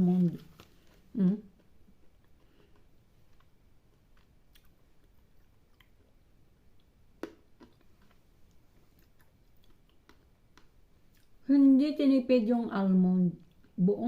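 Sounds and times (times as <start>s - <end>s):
chewing chocolate: 0.3s - 11.4s, 13.4s - 13.8s.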